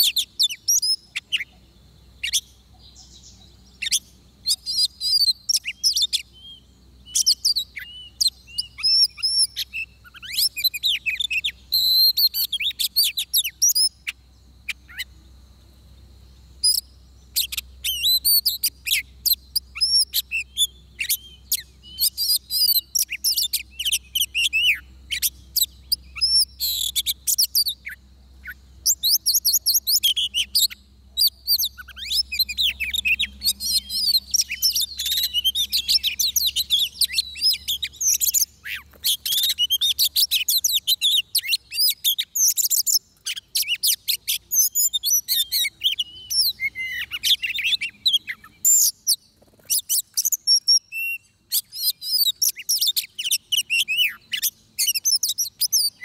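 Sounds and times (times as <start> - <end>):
magpie-robin singing: 0.0 - 15.2, 16.6 - 56.0.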